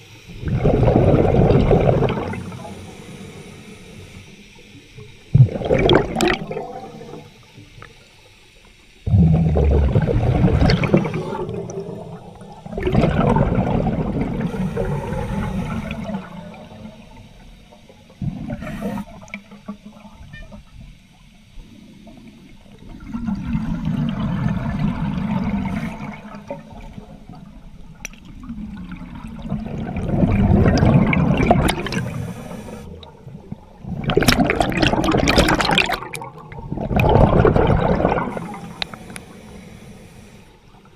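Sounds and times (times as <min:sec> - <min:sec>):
underwater bubbling and gurgling: 0:00.0 - 0:40.9.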